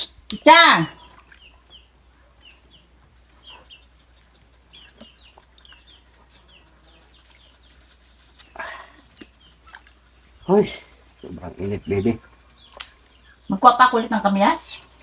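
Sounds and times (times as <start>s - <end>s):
chickens clucking: 0.7s - 15.0s.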